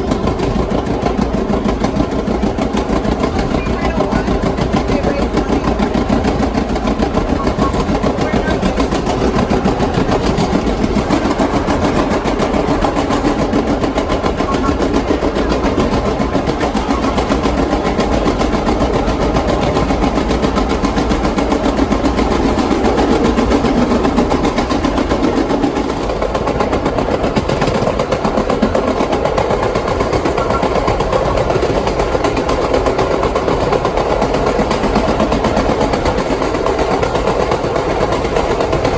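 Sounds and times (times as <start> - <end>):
subway cars clattering: 0.0 - 38.9.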